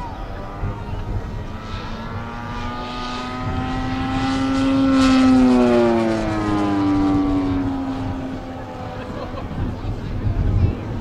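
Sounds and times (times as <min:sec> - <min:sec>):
model plane propeller drone: 0:00.0 - 0:11.0.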